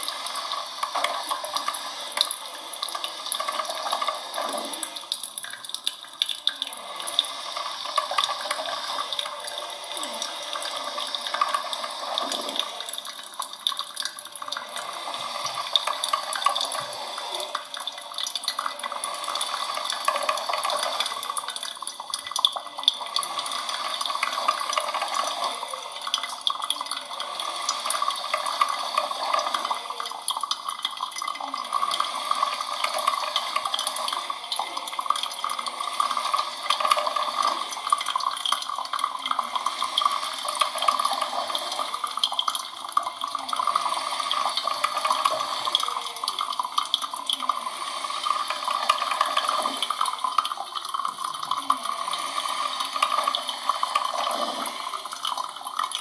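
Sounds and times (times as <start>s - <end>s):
coffee machine hissing: 0.0s - 56.0s.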